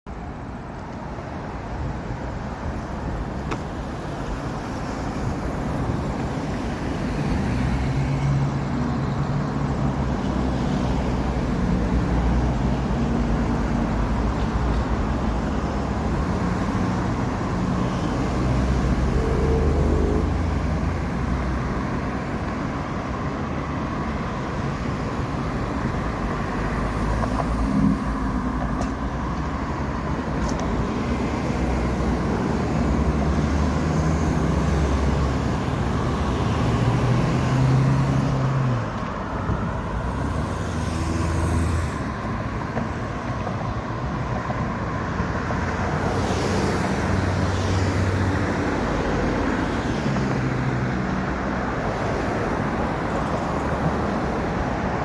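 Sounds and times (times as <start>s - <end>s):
passing cars rumbling: 0.1s - 55.0s.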